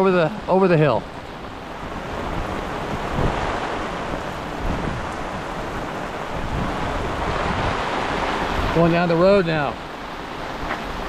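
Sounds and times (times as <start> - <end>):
water rushing: 0.0 - 11.0
wind buffeting microphone: 0.0 - 11.0.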